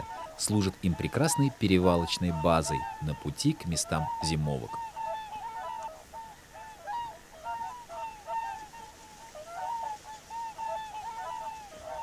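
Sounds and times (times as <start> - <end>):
swans honking: 0.0 - 12.0.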